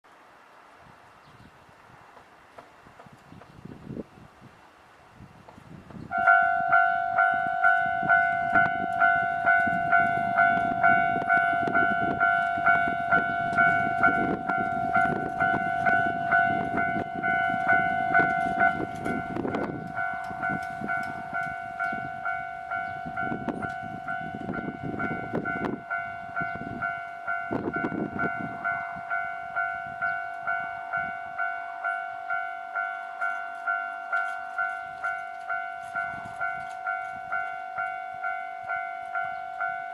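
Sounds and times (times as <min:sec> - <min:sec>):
train rumble: 0:00.1 - 0:39.9.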